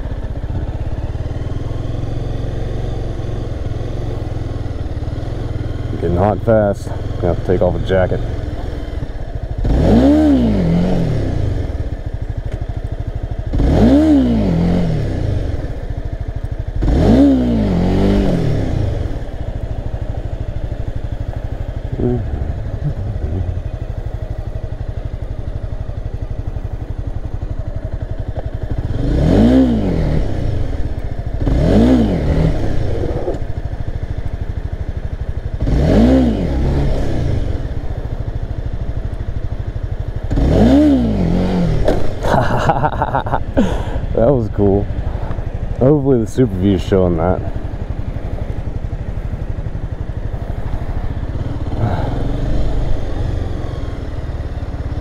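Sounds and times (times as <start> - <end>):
motorcycle engine idling: 0.0 - 55.0
motorcycle engine revving: 0.0 - 55.0.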